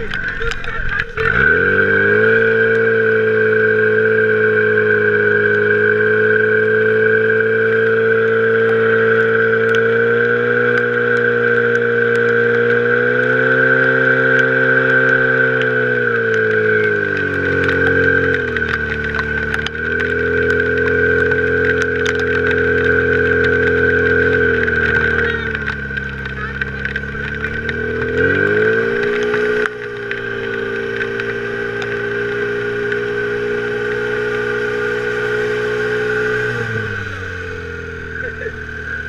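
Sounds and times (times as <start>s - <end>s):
fire pump engine running at high revs: 0.0s - 39.0s.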